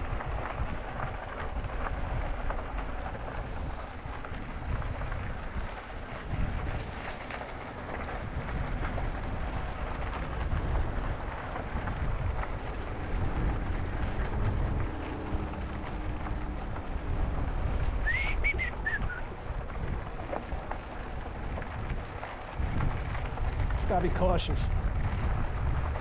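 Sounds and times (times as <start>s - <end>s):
bike tyres rolling on trail: 0.0s - 26.0s
wind buffeting microphone: 0.0s - 26.0s.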